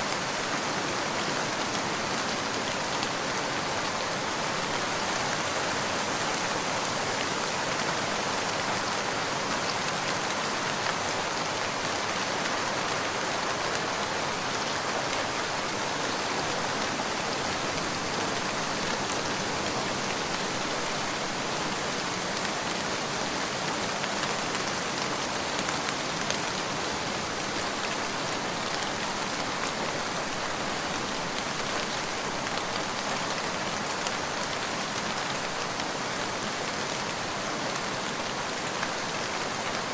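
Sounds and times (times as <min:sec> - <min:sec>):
rain pattering on a surface: 0:00.1 - 0:39.9.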